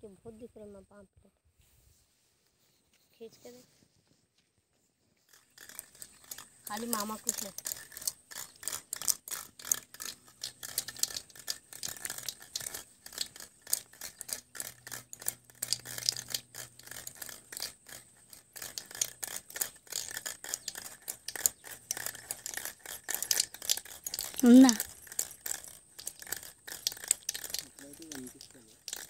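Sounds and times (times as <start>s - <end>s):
irregular crackling and scraping: 2.0s - 29.0s.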